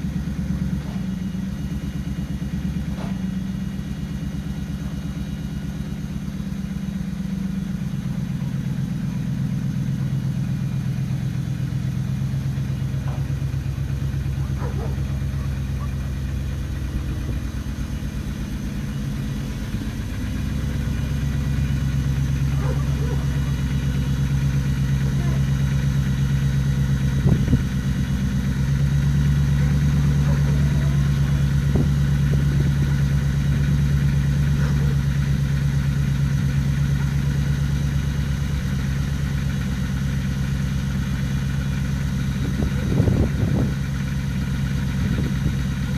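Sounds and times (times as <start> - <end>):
truck engine idling: 0.0 - 45.9.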